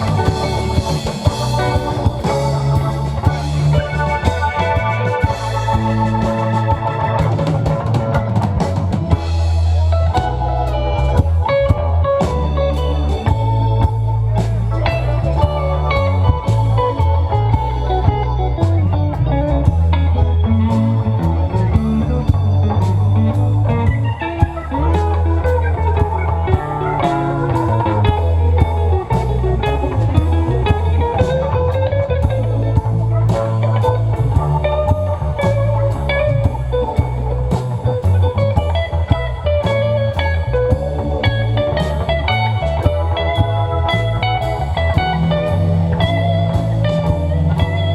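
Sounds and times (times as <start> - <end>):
bass guitar: 0.0 - 47.9
drum kit: 0.0 - 47.9
lead guitar bending notes: 0.0 - 47.9.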